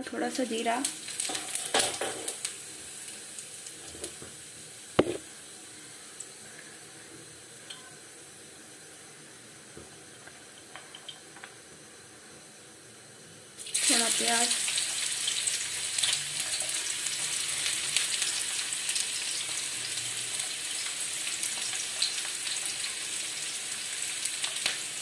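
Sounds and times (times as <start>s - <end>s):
seeds sizzling in hot oil: 0.0s - 25.0s.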